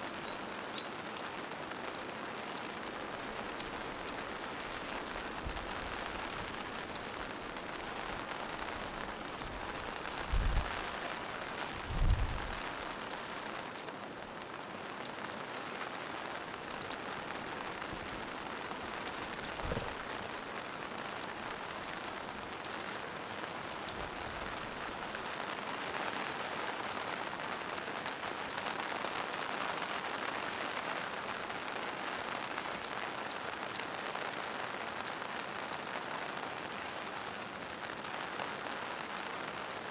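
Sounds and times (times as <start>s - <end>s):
rain patter on leaves: 0.0s - 39.9s.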